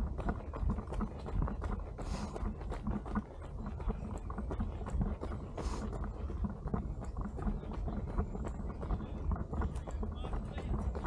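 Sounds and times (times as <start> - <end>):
footsteps on path: 0.0 - 11.0
wind rumble on microphone: 0.0 - 11.0.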